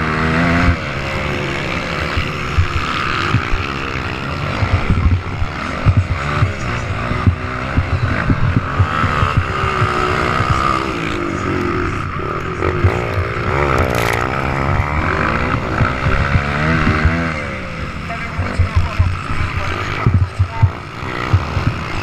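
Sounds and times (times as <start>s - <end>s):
motocross engines revving: 0.0s - 22.0s.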